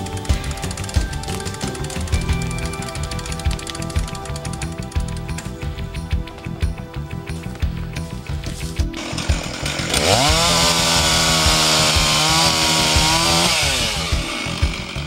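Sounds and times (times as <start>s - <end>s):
chainsaw idling and cutting wood: 0.0s - 15.0s.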